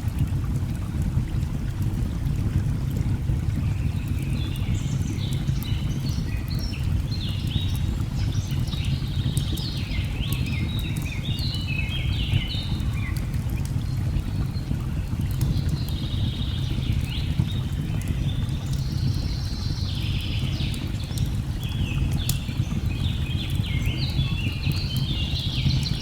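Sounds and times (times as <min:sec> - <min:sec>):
faint fire crackles: 0:00.0 - 0:26.0.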